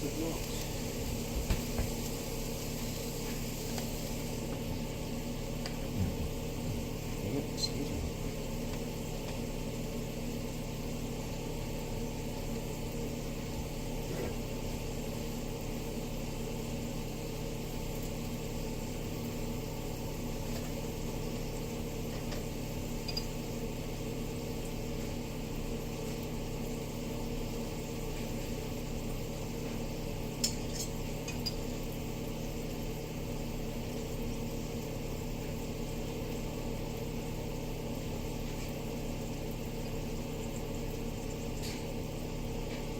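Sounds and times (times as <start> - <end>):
appliance machine hum: 0.0 - 42.9.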